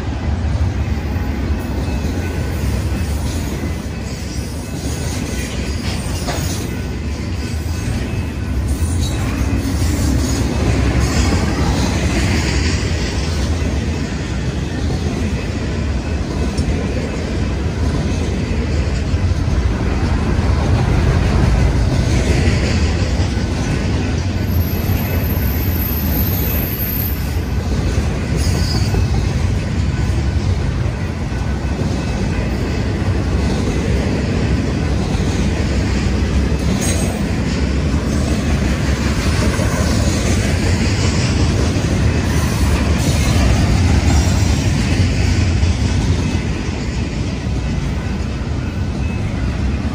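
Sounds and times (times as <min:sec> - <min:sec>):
train wheels rumbling on rail: 0:00.0 - 0:49.9.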